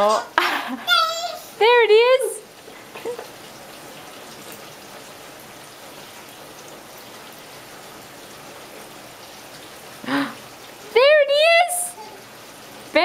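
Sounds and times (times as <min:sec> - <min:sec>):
rain pattering on ground: 0:00.0 - 0:13.0.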